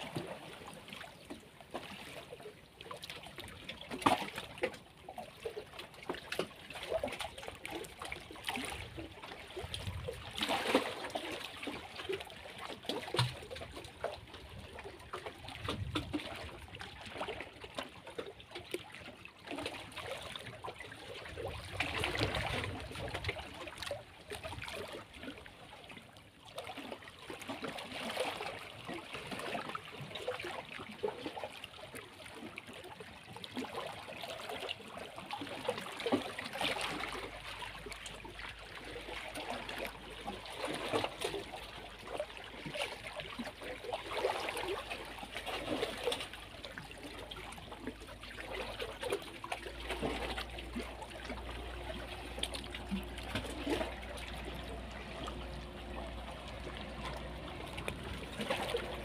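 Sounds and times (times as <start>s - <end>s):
waves lapping against rocks: 0.0s - 59.0s.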